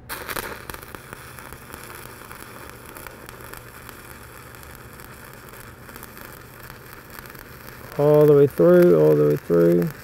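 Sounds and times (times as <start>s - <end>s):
welding arc crackling: 0.0s - 10.0s.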